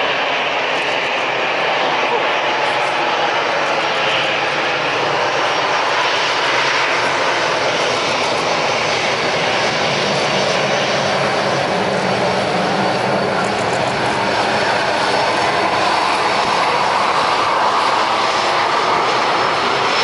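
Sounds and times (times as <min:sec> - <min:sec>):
jet engines at low thrust: 0:00.0 - 0:20.0.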